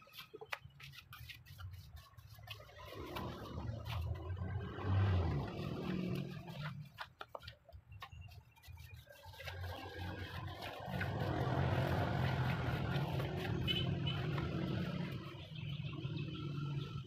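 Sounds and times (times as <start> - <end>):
vehicle engine rumble: 2.1 - 17.0.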